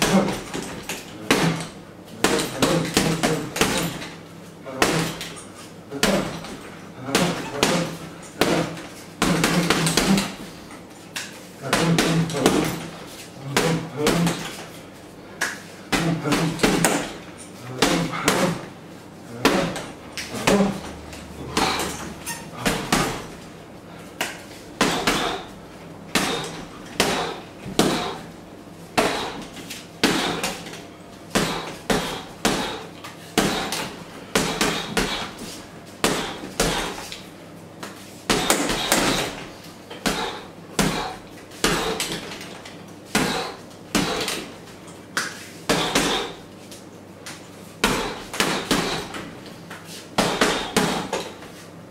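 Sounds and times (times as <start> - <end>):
gloves punching heavy bag: 0.0 - 10.6, 11.6 - 14.6, 15.9 - 18.7, 19.3 - 23.5, 24.2 - 28.3, 29.0 - 35.4, 36.0 - 37.2, 38.3 - 44.5, 45.7 - 46.4, 47.8 - 49.4, 50.2 - 51.4.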